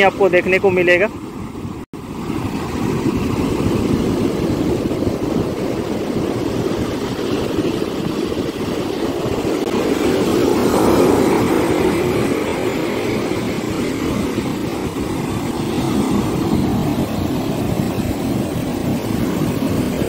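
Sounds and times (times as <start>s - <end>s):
surf breaking on sand beach: 0.0s - 20.0s
wind rumbling on microphone: 0.0s - 20.0s.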